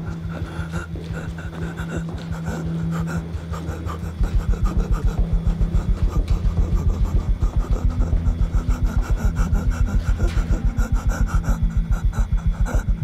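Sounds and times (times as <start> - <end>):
low fast throbbing pulse: 0.0 - 13.0
steady low hum: 0.0 - 13.0.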